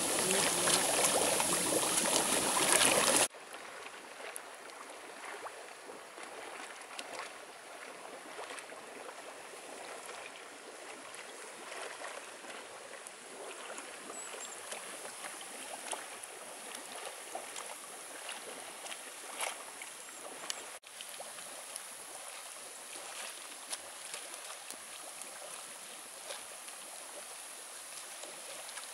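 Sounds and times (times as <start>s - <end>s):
water bubbling and gurgling: 0.0s - 28.9s.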